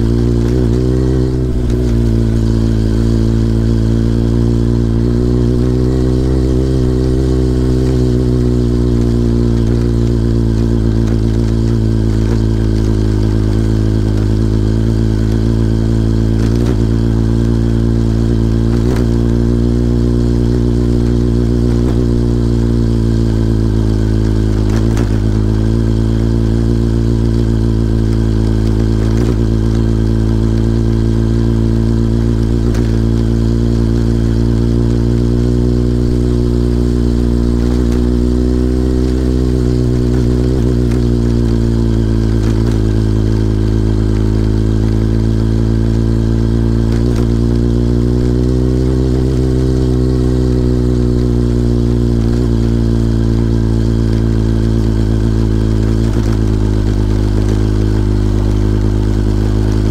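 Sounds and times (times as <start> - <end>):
motorcycle engine climbing under load: 0.0 - 59.9.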